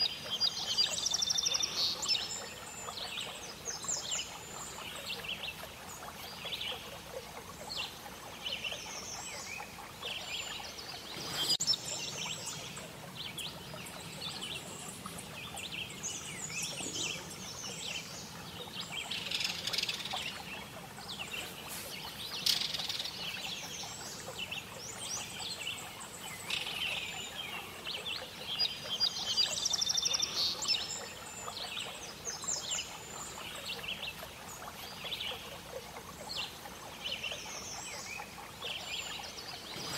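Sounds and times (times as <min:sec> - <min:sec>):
background hiss: 0:00.0 - 0:39.9
birds chirping and calling: 0:00.0 - 0:39.9.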